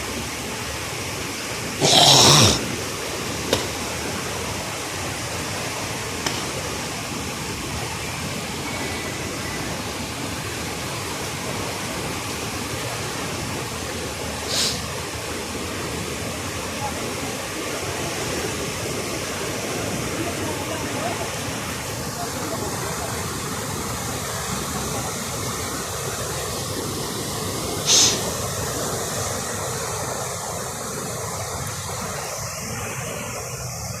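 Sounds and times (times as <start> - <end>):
river floodwater rushing: 0.1 - 34.0.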